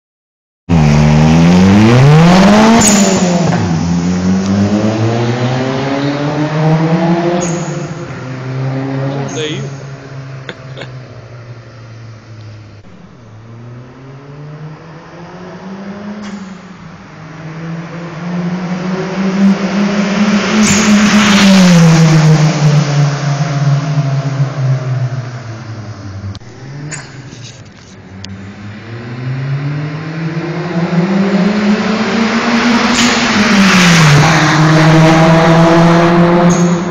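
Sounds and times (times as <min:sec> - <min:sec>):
turbocharged car accelerating past: 0:00.7 - 0:27.4, 0:28.0 - 0:36.9.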